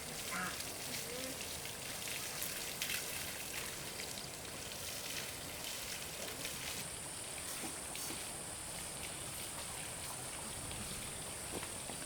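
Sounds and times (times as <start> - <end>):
water drips and splashes: 0.0 - 12.0
water pattering: 0.0 - 12.0.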